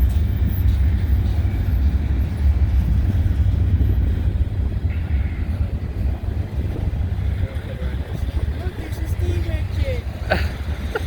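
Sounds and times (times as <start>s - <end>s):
diesel locomotives rumbling: 0.0s - 11.0s.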